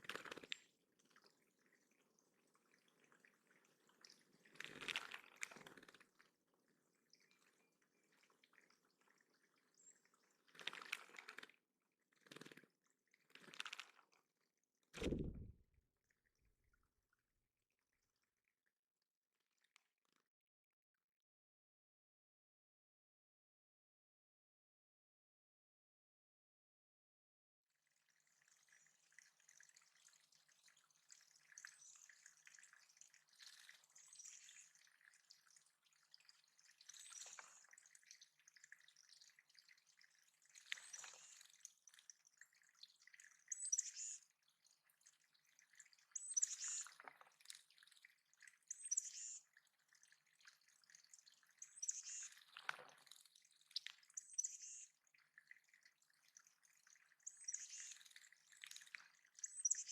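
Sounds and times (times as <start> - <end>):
water dripping into pond: 0.0 - 20.3, 27.7 - 59.9.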